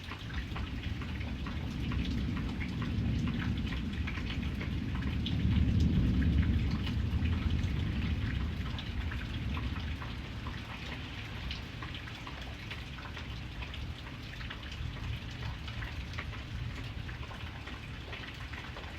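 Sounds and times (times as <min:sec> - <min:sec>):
rain hissing on a surface: 0:00.0 - 0:18.9
raindrops ticking: 0:00.0 - 0:18.9.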